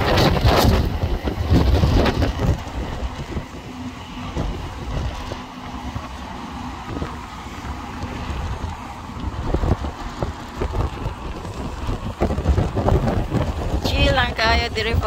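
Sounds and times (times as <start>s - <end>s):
distant tram passing: 0.0s - 15.0s
wind buffeting microphone: 0.0s - 15.0s.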